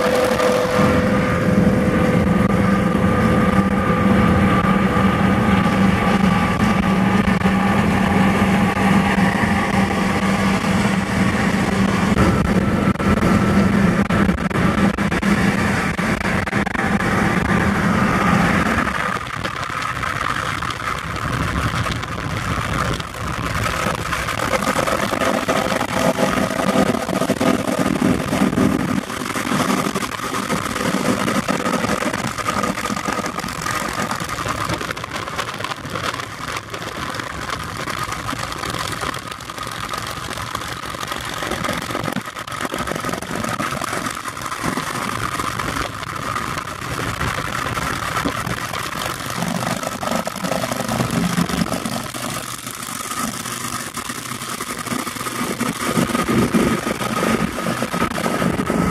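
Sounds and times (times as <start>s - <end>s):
car road and wind rush: 0.0s - 58.9s
motorcycle engines: 0.0s - 58.9s.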